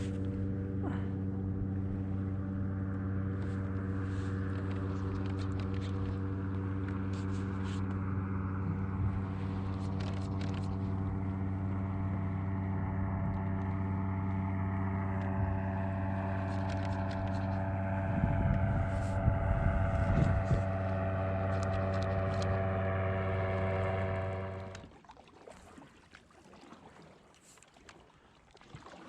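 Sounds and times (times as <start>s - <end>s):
low rumbling: 0.0s - 24.9s
motor humming steadily: 0.0s - 24.9s.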